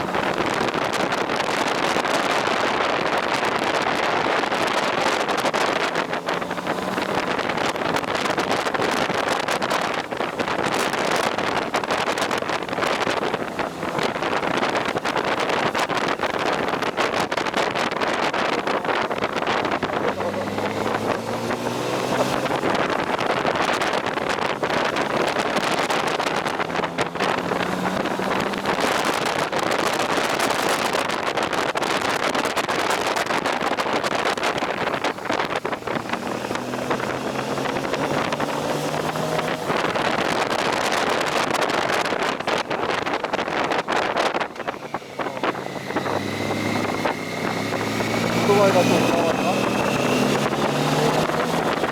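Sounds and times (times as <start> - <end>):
motorcycle engine: 0.0 - 51.9
wind rushing over microphone: 0.0 - 51.9.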